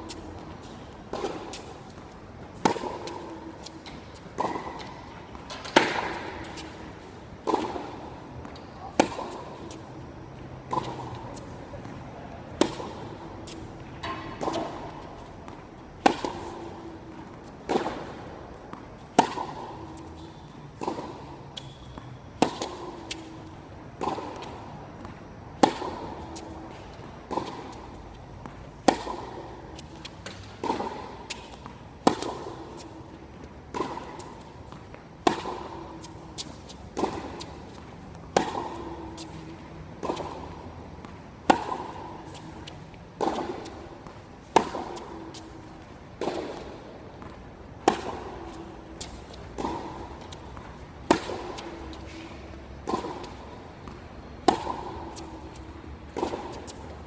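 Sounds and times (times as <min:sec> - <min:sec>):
tennis ball struck by rackets: 0:00.0 - 0:57.0.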